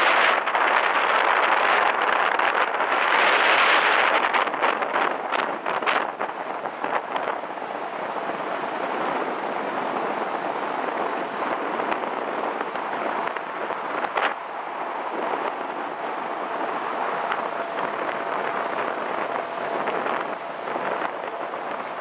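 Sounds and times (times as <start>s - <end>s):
boat engine running: 0.0s - 22.0s
wind on microphone: 0.0s - 22.0s.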